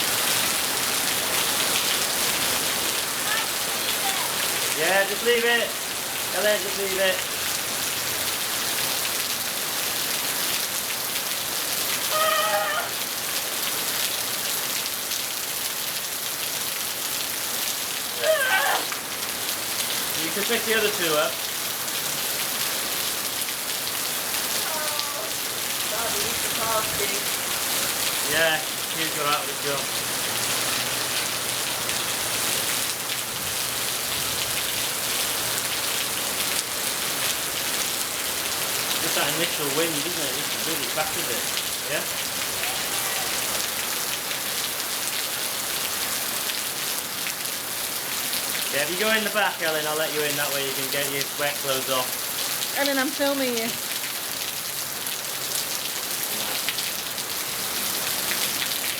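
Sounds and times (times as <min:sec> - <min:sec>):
rain falling steadily: 0:00.0 - 0:58.9.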